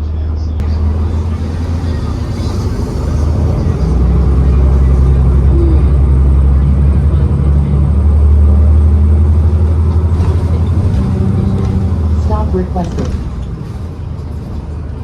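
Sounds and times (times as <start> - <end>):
bus engine low drone: 0.0 - 15.0.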